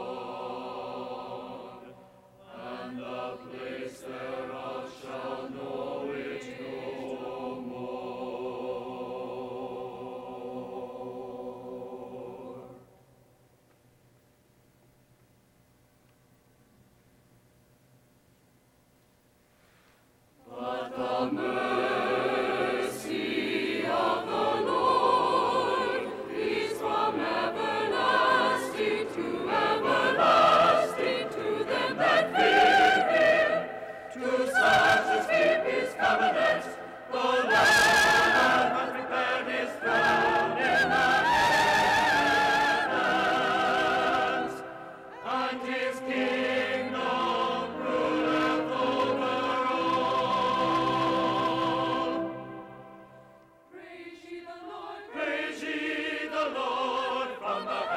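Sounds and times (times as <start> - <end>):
choir singing with orchestra: 0.0 - 12.9, 20.4 - 57.9.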